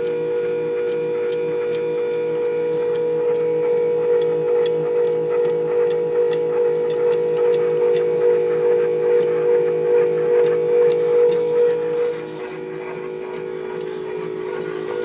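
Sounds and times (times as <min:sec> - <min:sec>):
stepper motor whine: 0:00.0 - 0:15.0.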